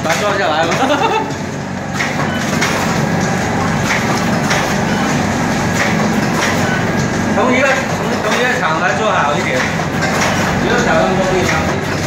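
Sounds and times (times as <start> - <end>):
machine clicking or knocking: 0.0 - 12.0
packaging machine humming: 0.0 - 12.0.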